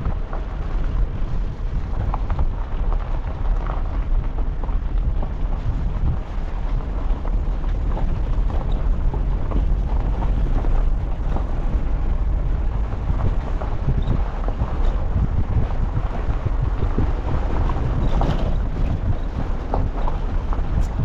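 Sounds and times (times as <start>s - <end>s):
car rumbling on gravel: 0.0s - 21.0s
stones crackling under tyres: 0.0s - 21.0s.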